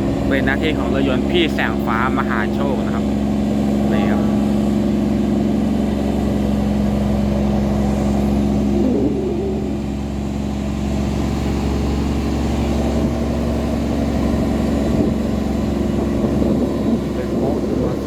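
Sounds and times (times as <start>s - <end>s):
tugboat diesel engine drone: 0.0s - 18.0s.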